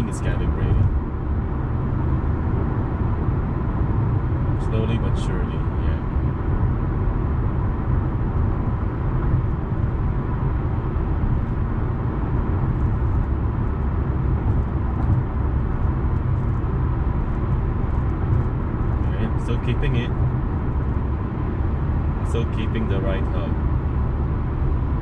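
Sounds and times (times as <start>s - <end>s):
car cabin road rumble: 0.0s - 25.0s.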